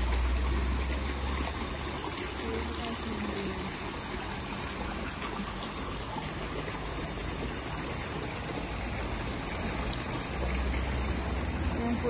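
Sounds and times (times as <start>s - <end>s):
water pouring into a pool: 0.0s - 12.0s.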